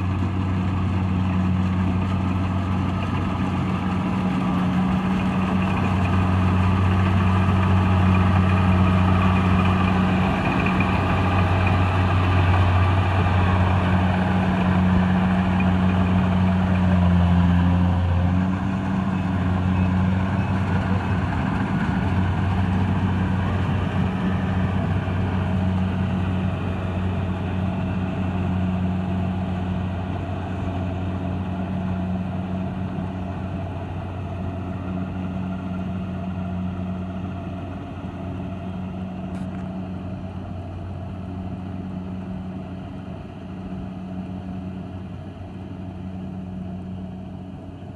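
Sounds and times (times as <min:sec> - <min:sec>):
diesel engine humming: 0:00.0 - 0:47.9.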